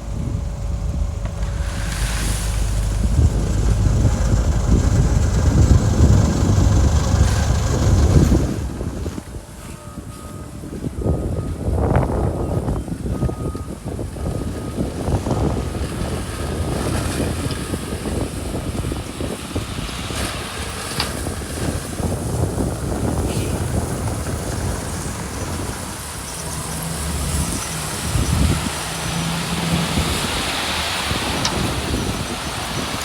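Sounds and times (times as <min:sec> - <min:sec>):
heavy machinery diesel engine: 0:00.0 - 0:33.0
wind buffeting microphone: 0:00.0 - 0:33.0.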